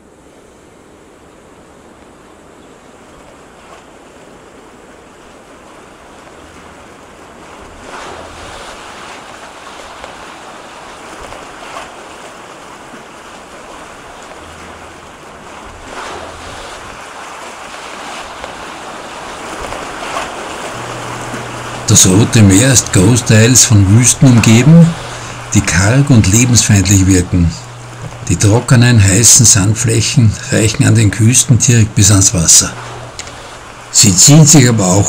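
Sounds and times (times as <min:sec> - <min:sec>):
sea waves washing ashore: 0:00.0 - 0:35.0.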